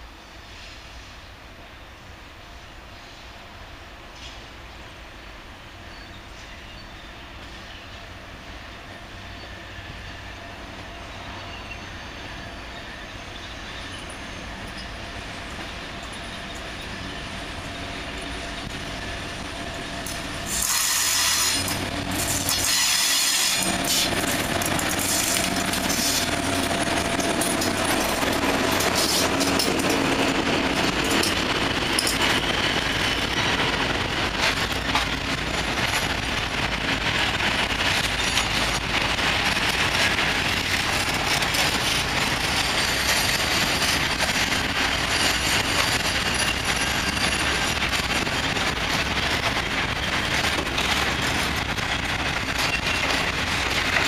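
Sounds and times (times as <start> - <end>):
diesel locomotive engine running: 7.4 - 54.0.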